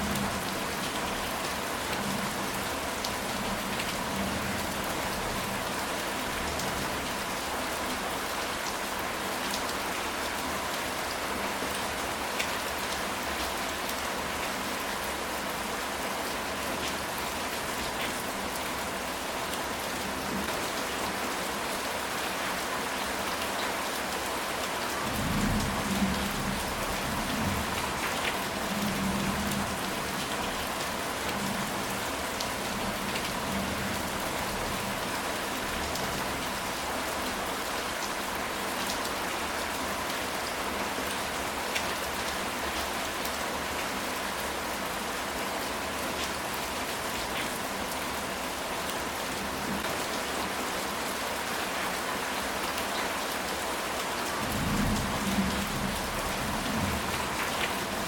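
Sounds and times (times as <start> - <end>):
rain on a tile roof: 0.0 - 58.0.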